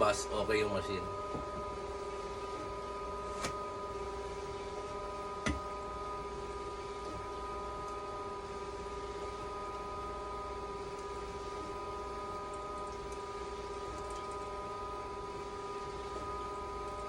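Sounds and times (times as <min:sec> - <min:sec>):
machine humming with constant tones: 0:00.0 - 0:17.0.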